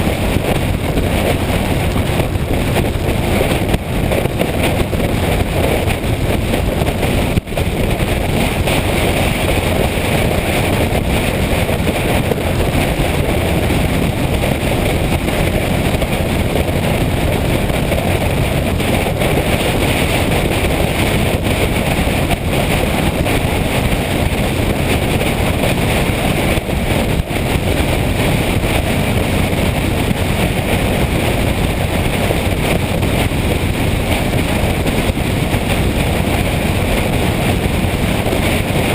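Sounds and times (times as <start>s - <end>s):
motorcycle engine: 0.0s - 38.9s
road noise: 0.0s - 38.9s
wind rush over microphone: 0.0s - 38.9s.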